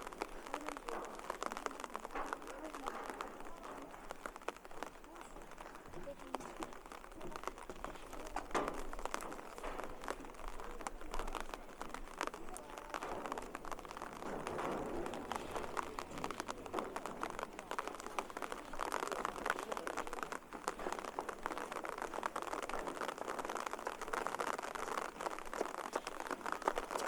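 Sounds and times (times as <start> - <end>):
faint voices murmuring: 0.0 - 27.0
light rain pattering: 0.0 - 27.0.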